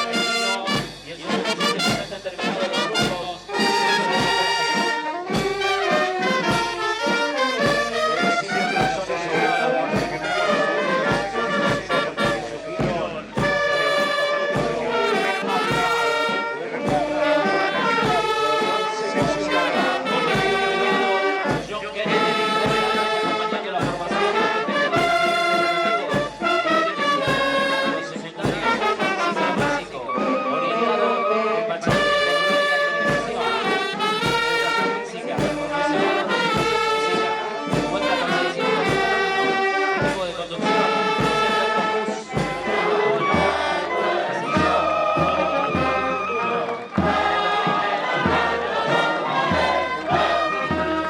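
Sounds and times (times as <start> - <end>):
low drum beat: 0.0 - 30.1, 31.9 - 51.0
brass band music: 0.0 - 51.0
trumpets and trombones: 0.0 - 51.0.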